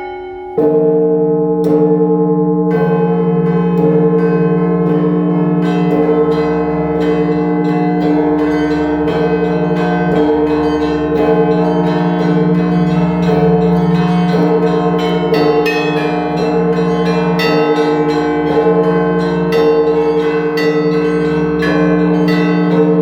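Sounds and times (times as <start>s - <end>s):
hum of large bells: 0.0s - 23.0s
small bells struck rapidly: 2.8s - 23.0s.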